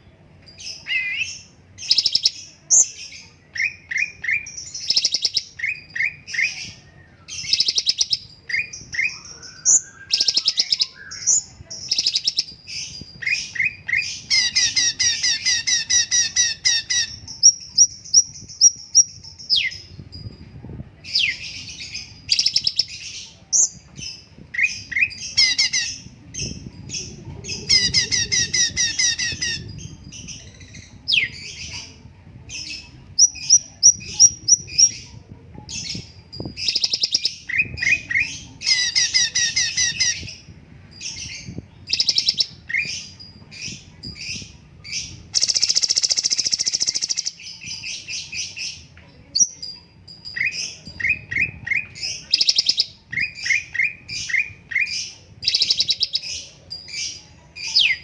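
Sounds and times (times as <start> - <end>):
bird singing chattering trills: 0.5 - 20.4, 21.1 - 31.9, 32.6 - 58.0.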